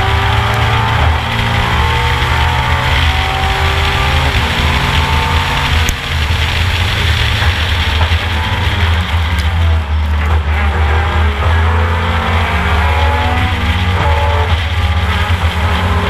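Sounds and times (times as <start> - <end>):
race car engine running hard: 0.0 - 16.0
road and wind noise: 0.0 - 16.0.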